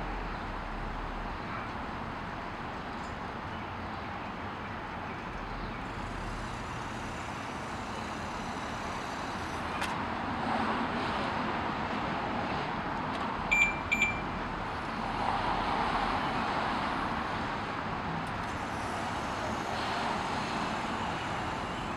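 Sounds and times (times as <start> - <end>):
vehicles passing: 0.0 - 21.9.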